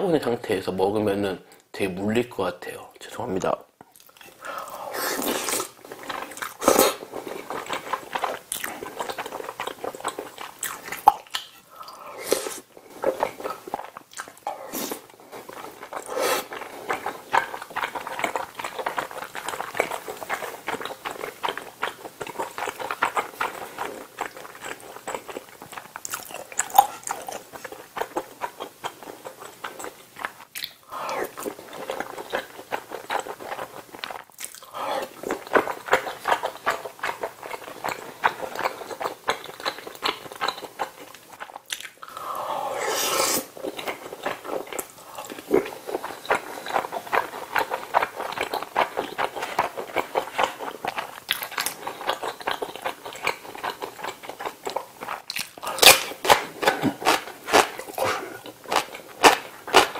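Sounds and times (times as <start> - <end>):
wet chewing mouth clicks: 3.8 - 59.9.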